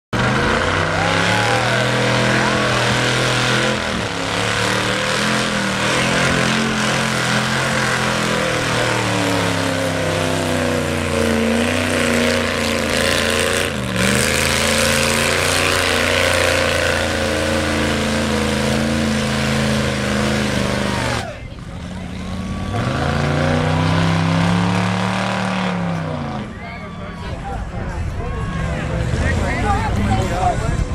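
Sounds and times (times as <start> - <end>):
truck churning through mud: 0.1 - 27.7
truck engine revving: 0.1 - 30.9.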